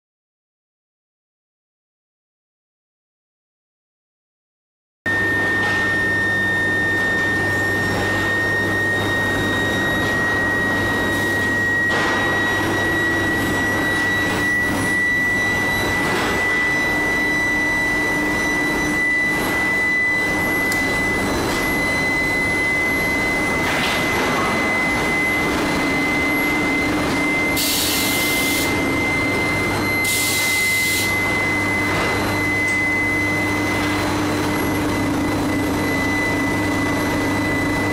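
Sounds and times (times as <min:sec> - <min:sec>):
furnace electrical hum: 0:05.1 - 0:37.9
high whine rising in pitch: 0:05.1 - 0:37.9.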